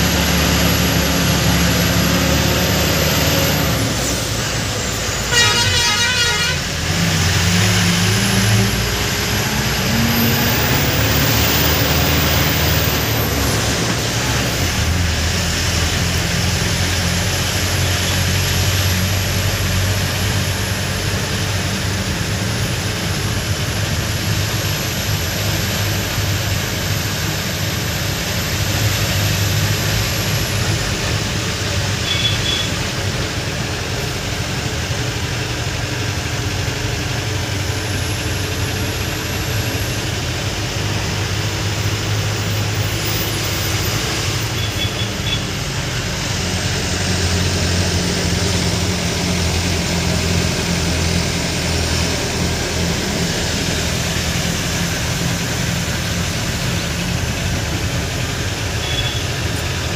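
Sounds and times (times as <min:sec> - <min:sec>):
road and cab rattle: 0:00.0 - 0:59.9
truck diesel engine running: 0:00.0 - 0:59.9.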